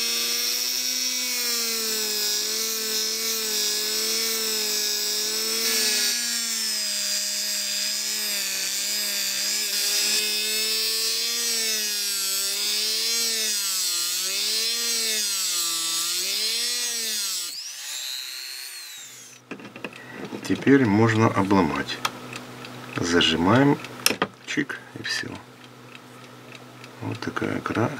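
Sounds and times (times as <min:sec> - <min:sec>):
rotary tool whine: 0:00.0 - 0:23.8.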